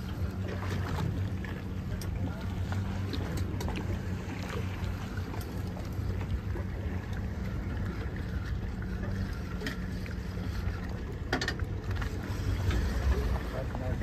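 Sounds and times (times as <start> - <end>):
boat engine low hum: 0.0 - 14.0
water noise: 0.0 - 14.0
wind: 0.0 - 14.0.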